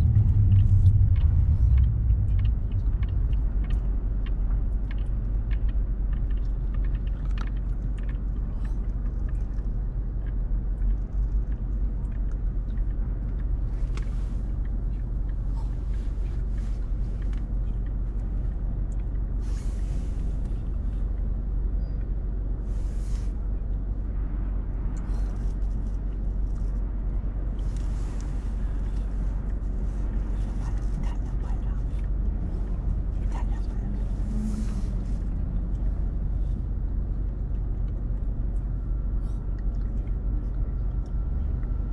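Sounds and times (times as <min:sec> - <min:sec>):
low road rumble: 0:00.0 - 0:41.9.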